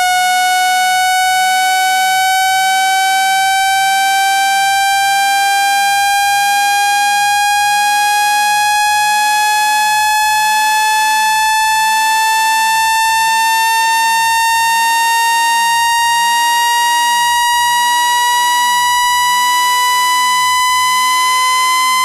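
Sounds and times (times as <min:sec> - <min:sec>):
synthesized buzzing tone: 0:00.0 - 0:22.0.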